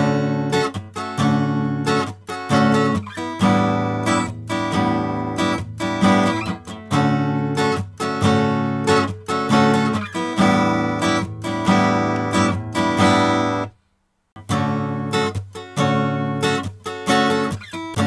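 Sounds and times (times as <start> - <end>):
acoustic guitar strumming chords: 0.0 - 13.8, 14.4 - 18.0.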